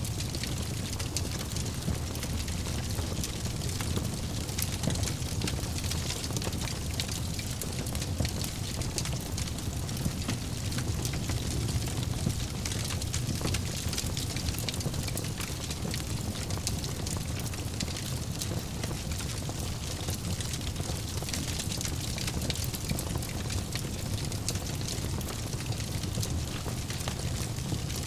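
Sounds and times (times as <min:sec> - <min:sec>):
fire burning in a fireplace: 0:00.0 - 0:28.0.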